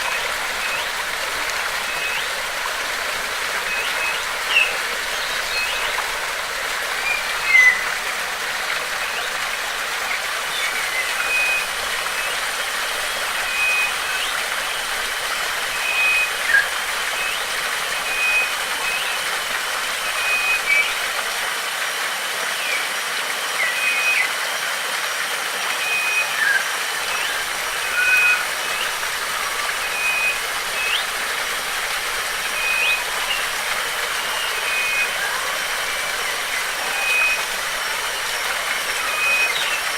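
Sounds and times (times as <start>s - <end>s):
birds chirping: 0.0s - 21.5s, 25.8s - 39.9s
running water: 0.0s - 39.9s.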